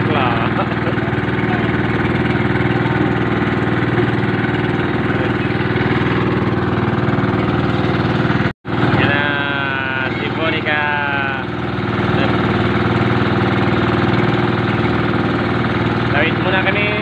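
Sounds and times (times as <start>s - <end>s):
boat engine chugging: 0.0s - 17.0s.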